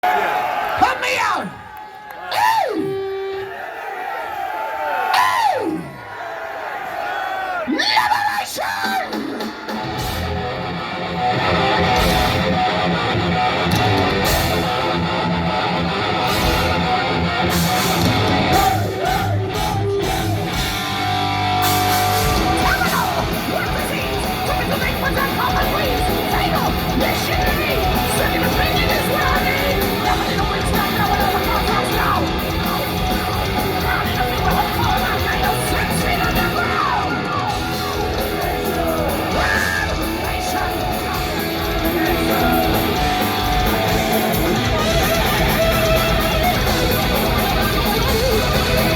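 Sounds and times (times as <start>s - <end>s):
thrash metal band playing live: 8.1s - 48.9s.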